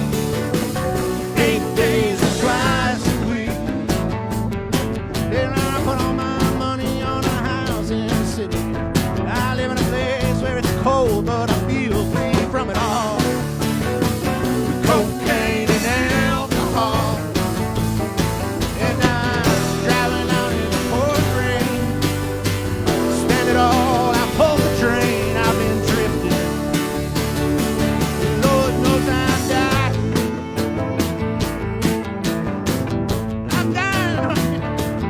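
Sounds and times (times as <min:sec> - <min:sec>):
band playing rock song: 0:00.0 - 0:35.0
bass: 0:00.0 - 0:35.0
steady drum beat: 0:00.0 - 0:35.0.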